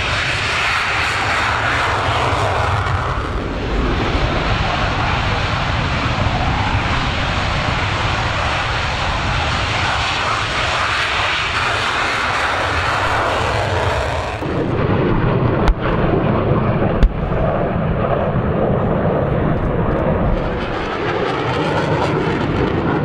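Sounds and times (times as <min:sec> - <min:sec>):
jet engine roaring: 0:00.0 - 0:23.0.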